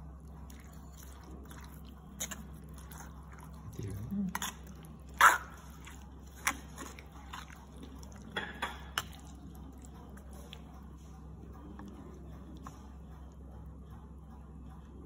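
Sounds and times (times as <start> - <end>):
spatula stirring wet clicks: 0.1 - 13.5.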